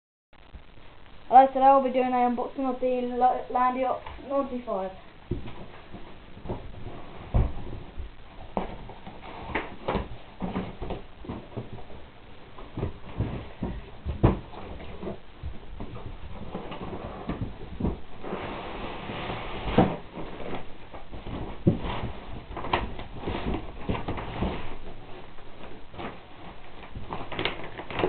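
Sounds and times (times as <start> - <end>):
cardboard rustling and scraping: 5.3 - 28.0.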